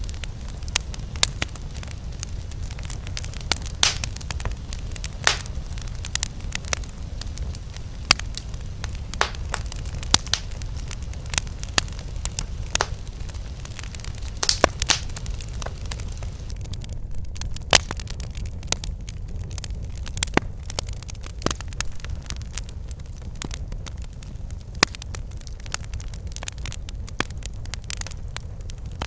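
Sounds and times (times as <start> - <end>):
steady low rumble: 0.0 - 25.7
campfire crackling: 0.0 - 29.0.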